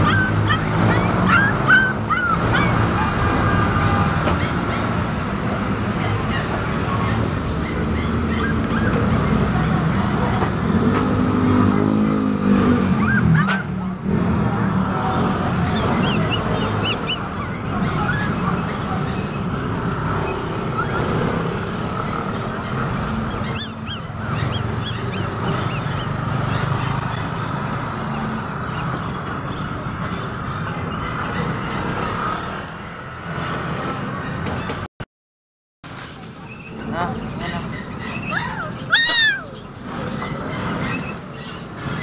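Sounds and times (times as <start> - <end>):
puppies whining: 0.0 - 32.4, 36.6 - 42.0
market noise: 0.0 - 34.9, 35.9 - 42.0
traffic noise: 0.0 - 34.9, 35.8 - 42.0.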